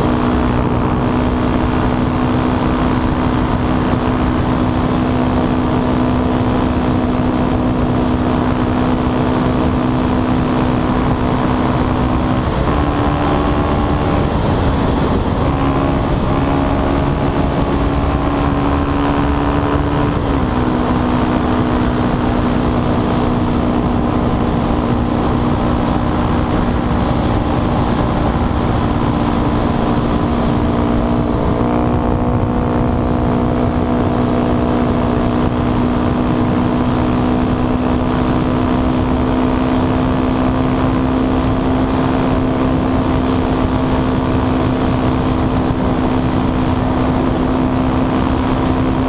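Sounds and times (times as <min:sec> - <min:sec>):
motorcycle engine running: 0:00.0 - 0:49.0
wind noise on microphone: 0:00.0 - 0:49.0.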